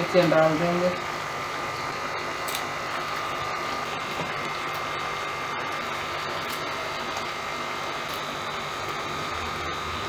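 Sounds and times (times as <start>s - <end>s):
mechanical whirring hum: 0.0s - 10.0s.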